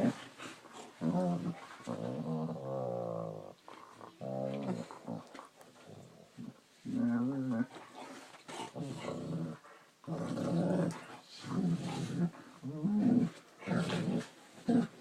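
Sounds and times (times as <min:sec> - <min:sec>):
dog growling: 0:00.0 - 0:15.0.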